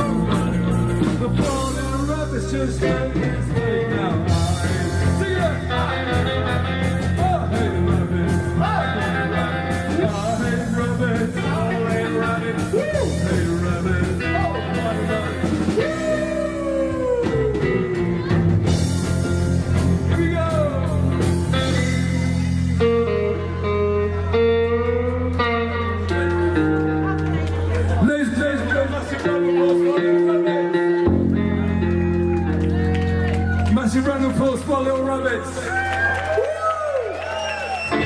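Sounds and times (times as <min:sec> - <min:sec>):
lead electric guitar: 0:00.0 - 0:36.5
bass and drums: 0:00.0 - 0:38.0.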